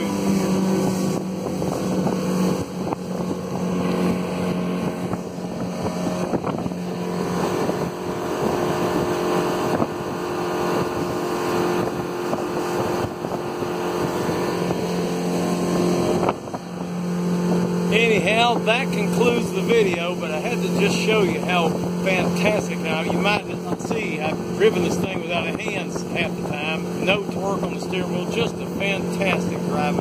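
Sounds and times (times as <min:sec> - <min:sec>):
outboard motor running: 0:00.0 - 0:30.0
water rushing along hull: 0:00.0 - 0:30.0
wind: 0:00.0 - 0:30.0.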